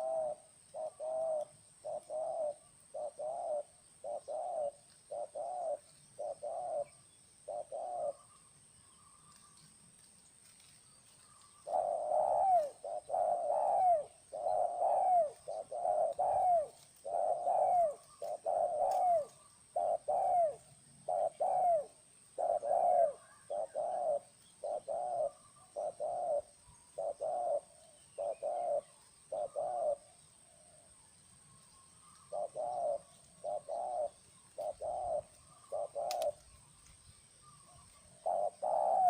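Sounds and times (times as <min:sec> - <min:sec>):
dove cooing: 0:00.0 - 0:09.7, 0:10.5 - 0:39.0.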